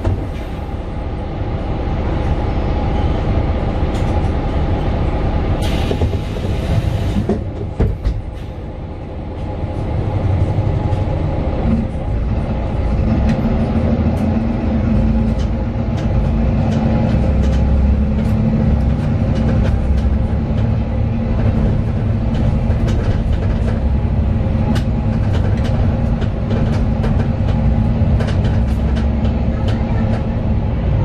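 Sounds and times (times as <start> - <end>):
bus diesel engine rumble: 0.0 - 31.0.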